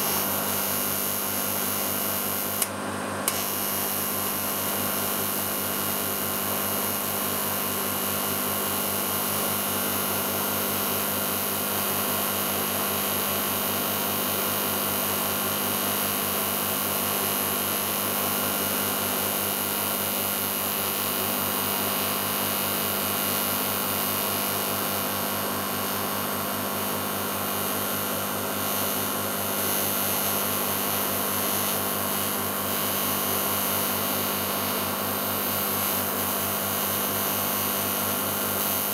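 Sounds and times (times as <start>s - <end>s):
welding arc hissing and humming: 0.0s - 38.9s.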